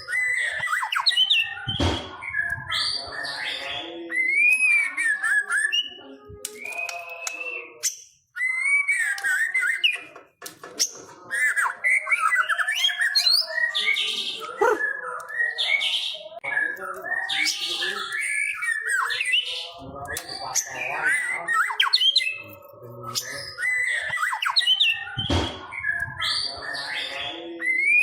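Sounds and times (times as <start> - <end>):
bird singing whistled phrases: 0.0 - 10.1, 11.3 - 28.0.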